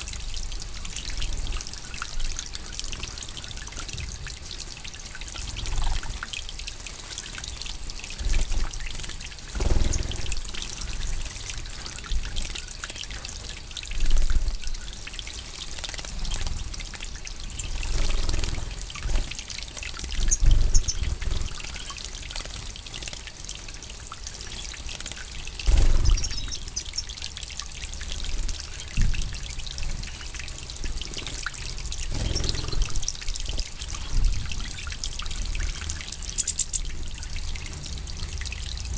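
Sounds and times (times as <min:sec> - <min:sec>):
birds splashing and fluttering: 0:02.9 - 0:27.3, 0:28.3 - 0:38.7.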